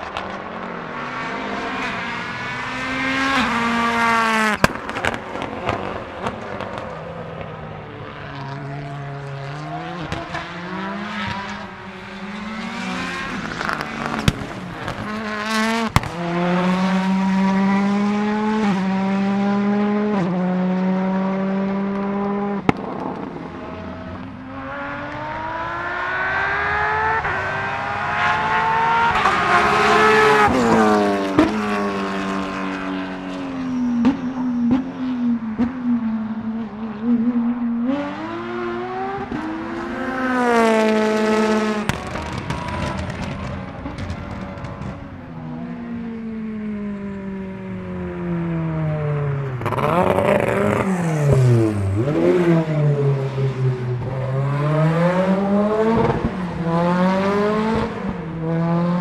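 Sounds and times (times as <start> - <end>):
rally car engine accelerating: 0.0 - 59.0.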